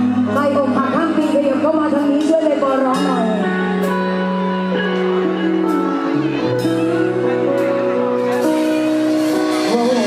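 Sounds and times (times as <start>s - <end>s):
bass line: 0.0s - 10.0s
keyboard chords: 0.0s - 10.0s.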